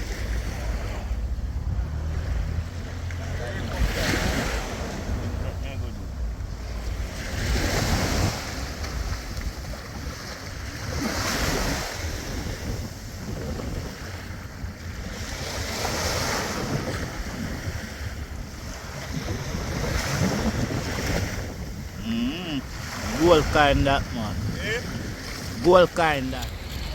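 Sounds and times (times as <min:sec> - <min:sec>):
sea waves washing: 0:00.0 - 0:26.9
wind blowing across microphone: 0:03.6 - 0:26.9.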